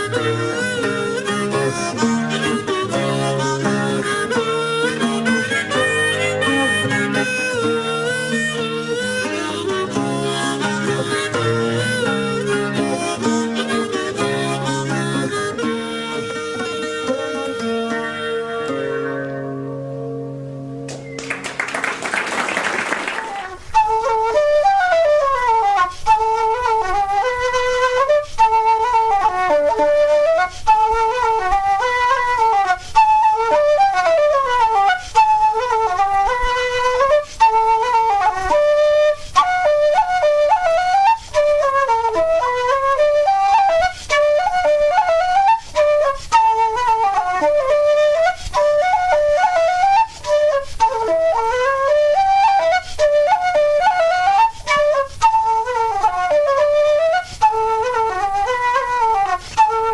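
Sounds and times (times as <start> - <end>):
solo flute playing folk tune: 0.0 - 59.9.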